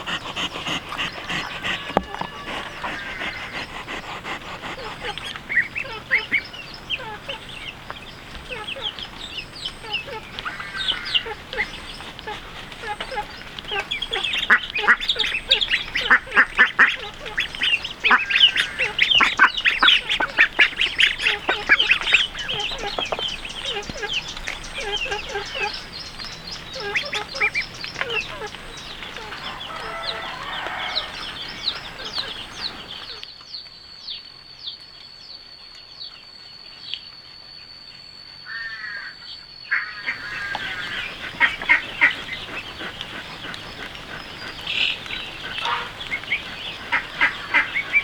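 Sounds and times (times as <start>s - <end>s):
farm fowl calling: 0.0s - 33.2s, 39.7s - 48.0s.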